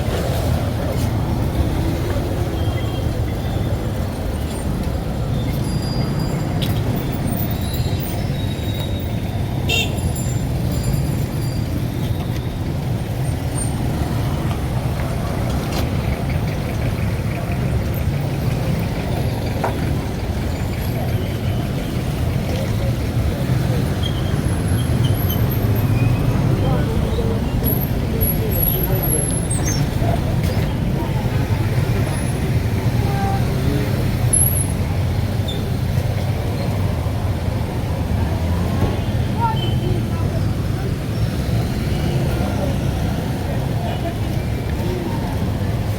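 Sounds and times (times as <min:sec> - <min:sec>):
vehicles passing rumble: 0:00.0 - 0:45.9.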